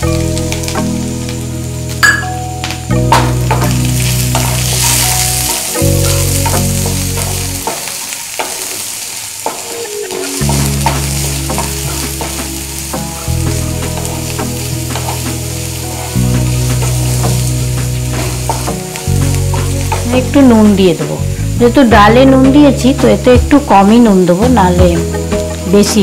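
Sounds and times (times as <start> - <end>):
onion sizzling in hot oil: 0.0 - 26.0.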